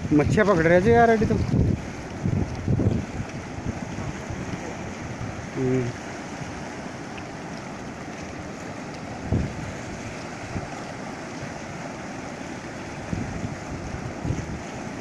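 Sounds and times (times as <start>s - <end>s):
floodwater rushing down a channel: 0.0s - 15.0s
wind buffeting microphone: 0.0s - 15.0s.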